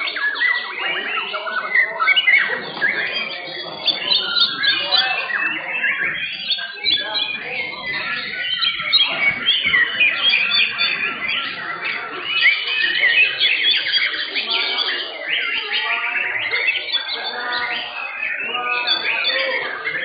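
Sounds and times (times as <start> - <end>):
chorus of songbirds singing: 0.0 - 20.0.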